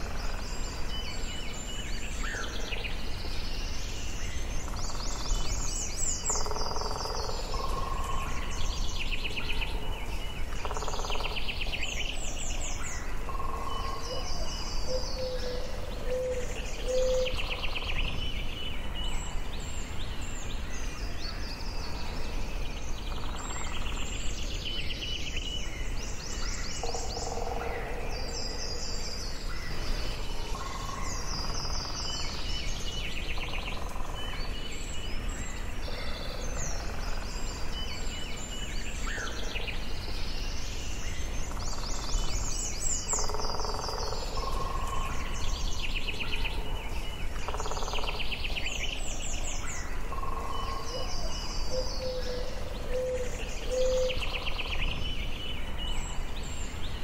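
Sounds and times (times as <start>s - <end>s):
birds singing: 0.0s - 57.0s
low background noise: 0.0s - 57.0s.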